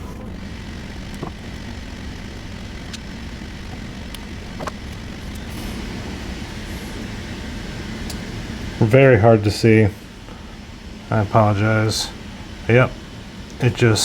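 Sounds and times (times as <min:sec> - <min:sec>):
low room noise rumble: 0:00.0 - 0:14.0.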